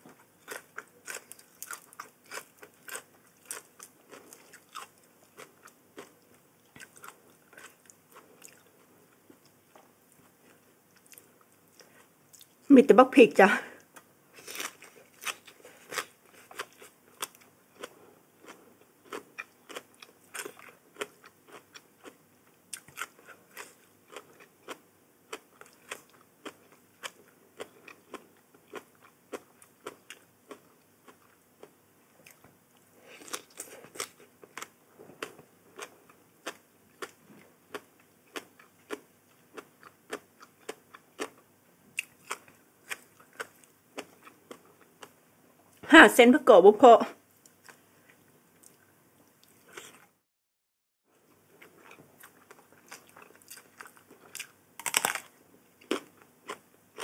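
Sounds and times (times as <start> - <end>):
chewing crunchy food: 0.1 - 12.7, 13.8 - 45.8, 47.4 - 50.2, 51.2 - 57.0.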